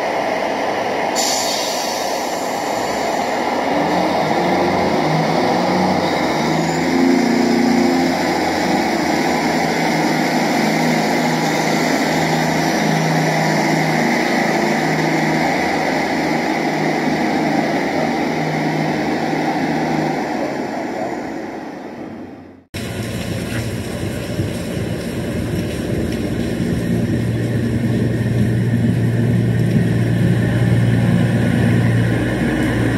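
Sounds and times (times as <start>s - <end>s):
diesel train engine drone: 0.0s - 32.9s.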